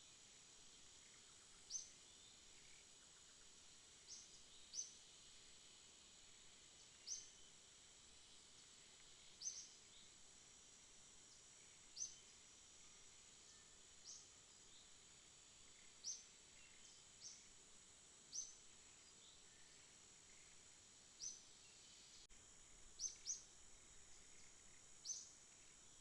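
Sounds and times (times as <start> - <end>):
high insect chorus: 0.0 - 26.0.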